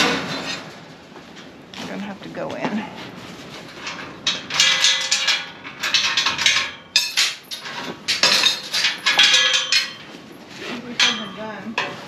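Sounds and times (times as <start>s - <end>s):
metal clattering and rattling: 0.0s - 12.0s.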